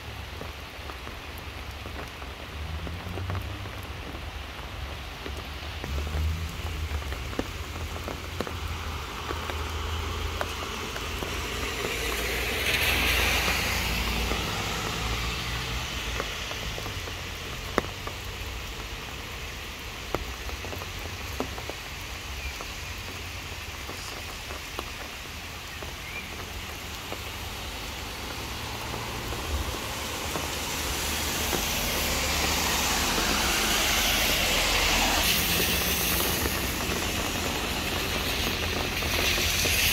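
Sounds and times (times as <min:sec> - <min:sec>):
car tyres hissing on wet road: 0:00.0 - 0:39.9
rain falling on trees and pavement: 0:00.0 - 0:39.9
sharp water drips: 0:00.0 - 0:39.9.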